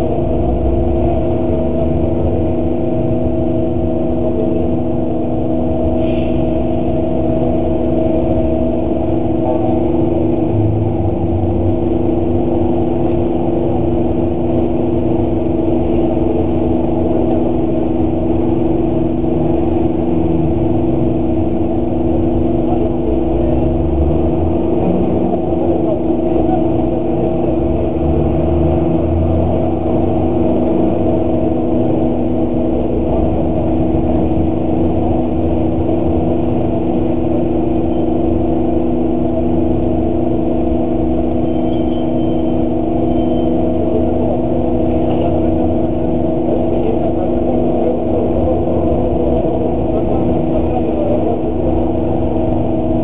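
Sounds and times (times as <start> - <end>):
bus engine idling: 0.0 - 53.0.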